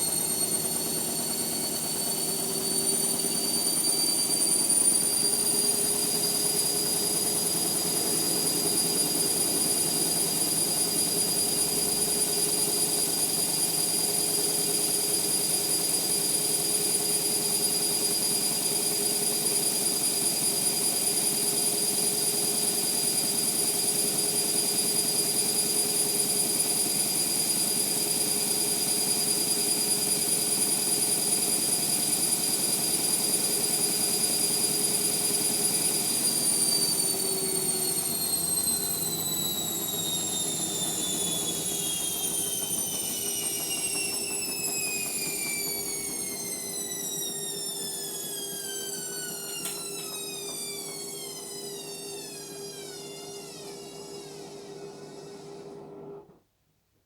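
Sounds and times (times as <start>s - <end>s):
washing machine spinning: 0.0s - 56.2s.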